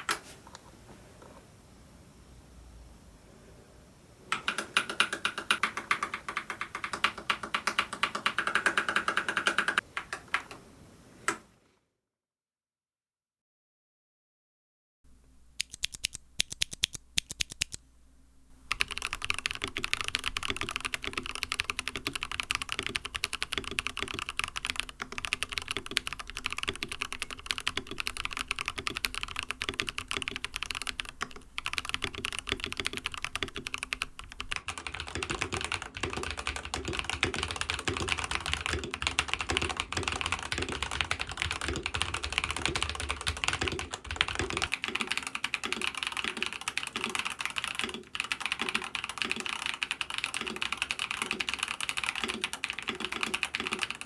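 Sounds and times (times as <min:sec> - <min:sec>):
mechanical keyboard typing: 0:04.3 - 0:10.5, 0:15.4 - 0:17.8, 0:18.5 - 0:54.0.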